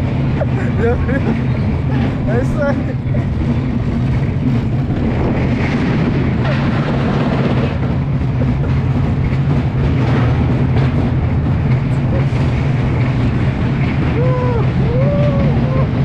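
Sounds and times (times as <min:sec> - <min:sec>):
low hum: 0:00.0 - 0:16.0
roller coaster wheels rumbling: 0:00.0 - 0:16.0.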